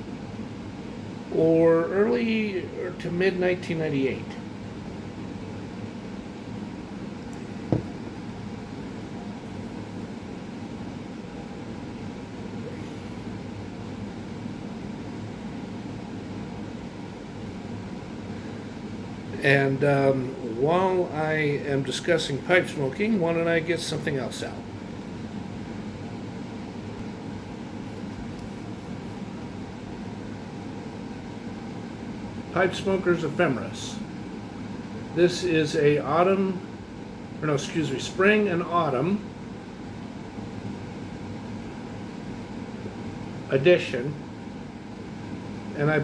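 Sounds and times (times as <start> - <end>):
room hum: 0.0 - 46.0.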